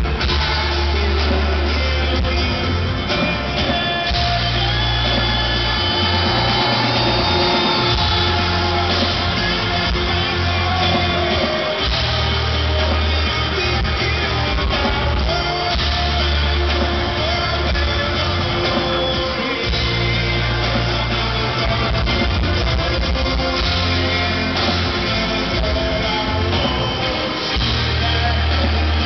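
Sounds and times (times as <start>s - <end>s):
drums: 0.0s - 29.0s
electric guitar: 0.0s - 29.0s
heavy bass line: 0.0s - 29.0s
male lead vocal singing: 0.0s - 29.0s.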